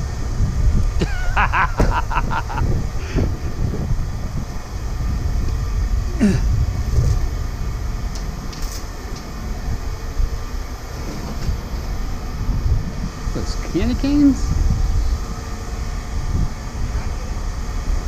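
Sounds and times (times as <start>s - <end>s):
low mechanical rumble: 0.0s - 18.0s.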